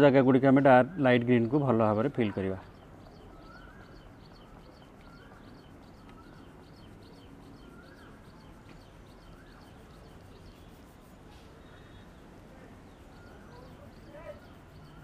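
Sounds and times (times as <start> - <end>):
faint high bird chirps: 0.4 - 15.0.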